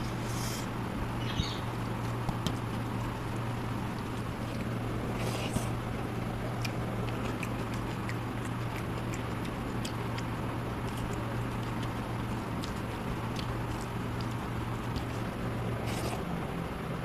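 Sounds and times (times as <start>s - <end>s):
low hum and hiss: 0.0s - 17.0s
chewing smacks: 2.0s - 16.3s.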